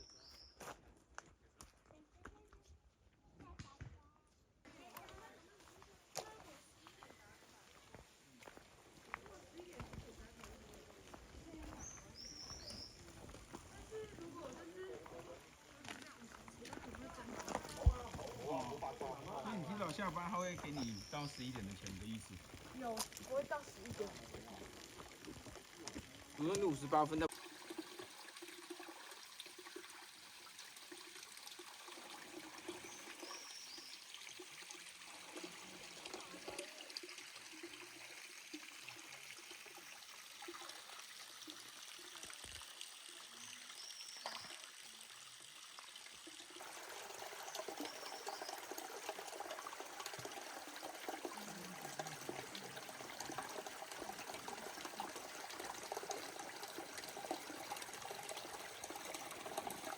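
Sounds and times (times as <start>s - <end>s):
faint trickling water: 4.7s - 59.9s.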